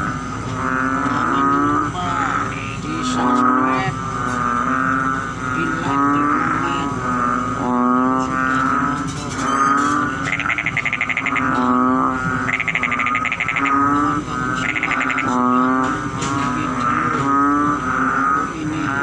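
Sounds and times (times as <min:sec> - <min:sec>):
frogs droning calls: 0:00.0 - 0:19.0.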